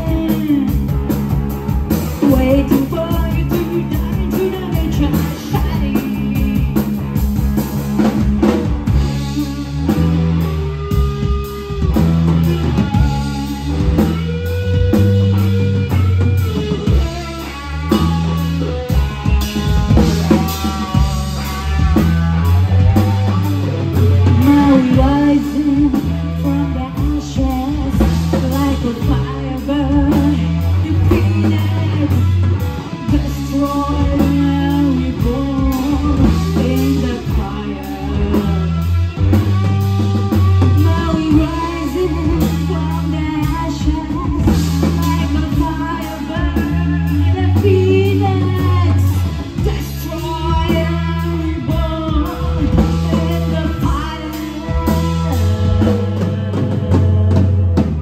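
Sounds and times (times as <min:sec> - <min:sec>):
woman singing: 0:00.0 - 0:07.2, 0:12.3 - 0:58.0
drum kit: 0:00.0 - 0:58.0
electric bass: 0:00.0 - 0:58.0
electric guitar: 0:00.0 - 0:58.0.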